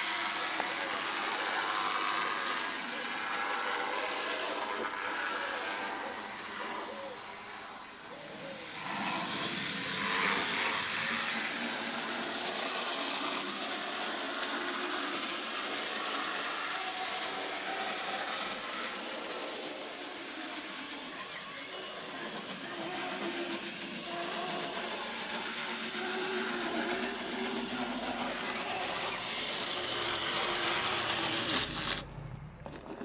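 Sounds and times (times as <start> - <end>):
model locomotive motor whirring: 0.0 - 33.0
wheels running on rails: 0.0 - 33.0.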